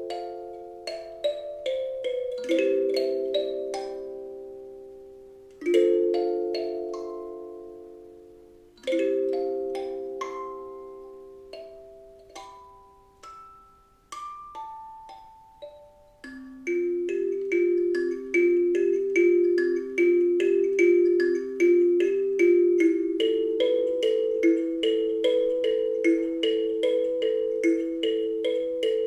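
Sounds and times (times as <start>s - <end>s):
kalimba playing: 0.0s - 29.0s.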